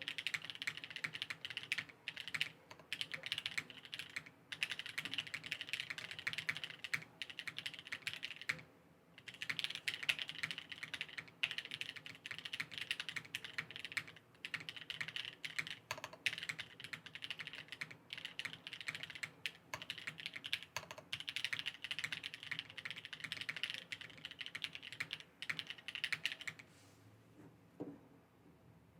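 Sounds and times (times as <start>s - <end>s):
mechanical keyboard typing: 0.0s - 26.6s.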